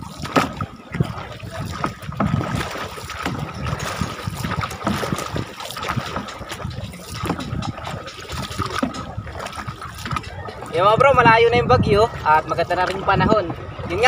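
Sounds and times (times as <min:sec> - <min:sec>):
paddle splashes in water: 0:00.0 - 0:14.0
wind rumble on microphone: 0:00.0 - 0:14.0.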